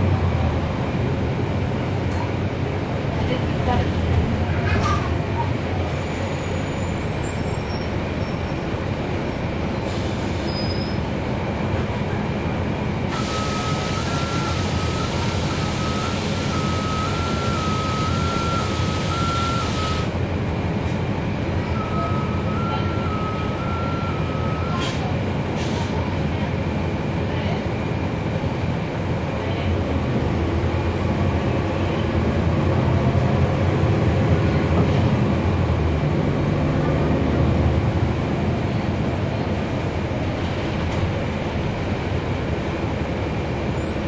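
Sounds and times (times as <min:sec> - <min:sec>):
bus diesel engine running: 0:00.0 - 0:44.0.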